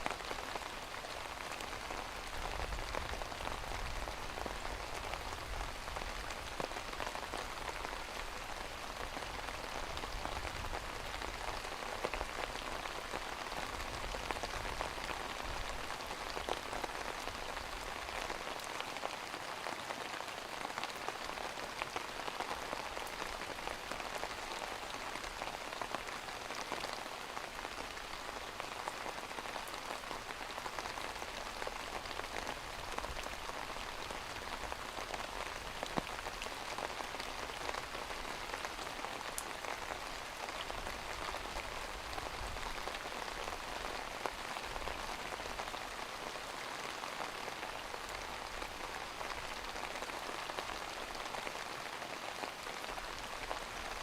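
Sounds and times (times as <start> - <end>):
rain falling on a surface: 0.0 - 54.0.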